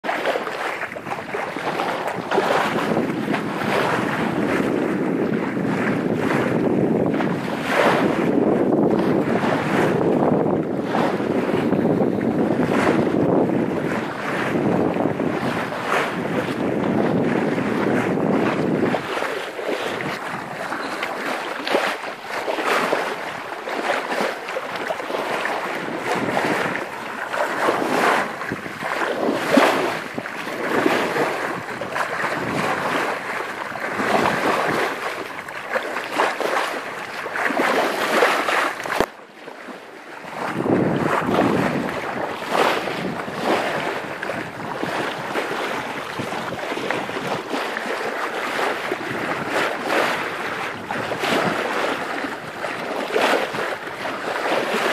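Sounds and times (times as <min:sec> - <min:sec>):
sea water splashing at bow: 0:00.0 - 0:54.9
wind on microphone: 0:00.0 - 0:54.9.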